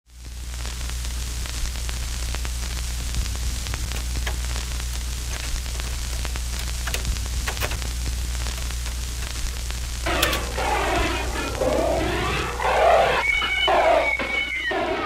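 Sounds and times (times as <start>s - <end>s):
static hiss: 0.1s - 15.0s
low electrical hum: 0.2s - 14.6s
crackles and clicks: 0.2s - 15.0s.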